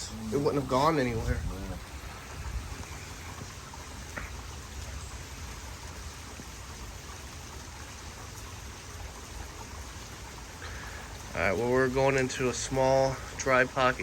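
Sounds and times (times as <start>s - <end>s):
rain falling: 0.0s - 14.0s
rushing stormwater: 0.0s - 14.0s.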